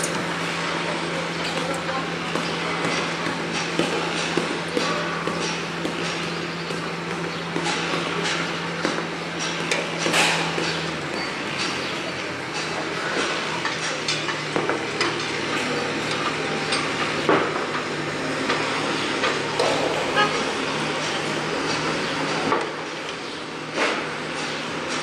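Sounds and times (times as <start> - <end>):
passing traffic: 0.0 - 25.0
steady engine hum: 0.0 - 25.0.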